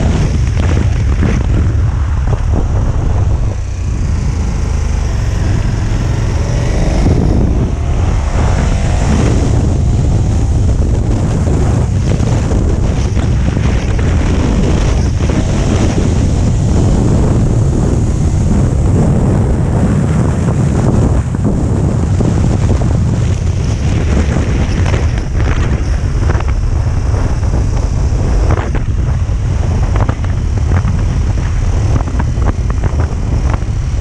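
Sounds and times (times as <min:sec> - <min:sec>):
motorcycle engine accelerating: 0:00.0 - 0:34.0
wind rush on microphone: 0:00.0 - 0:34.0.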